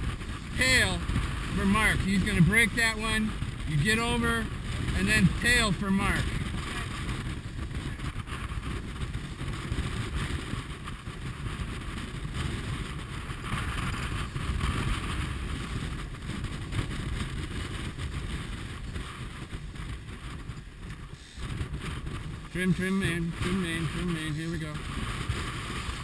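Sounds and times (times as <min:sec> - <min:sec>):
rushing wind and water: 0:00.0 - 0:26.0
wind buffeting microphone: 0:00.0 - 0:26.0.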